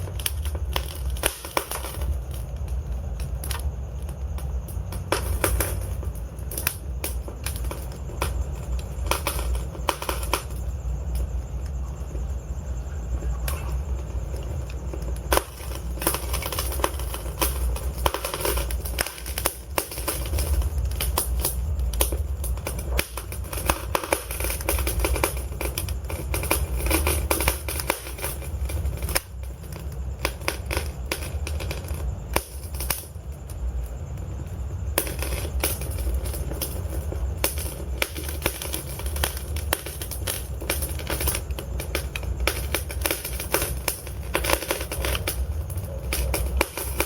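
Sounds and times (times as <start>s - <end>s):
logs crackling and popping: 0.0s - 47.0s
low rumble of flames: 0.0s - 47.0s.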